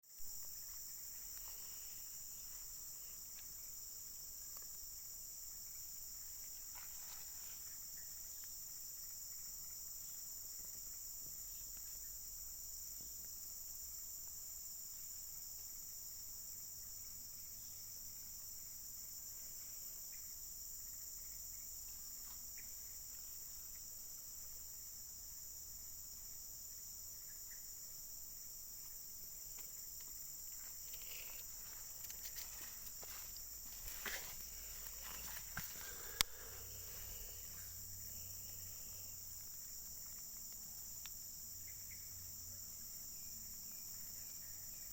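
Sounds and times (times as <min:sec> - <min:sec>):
insect chorus drone: 0:00.0 - 0:44.9.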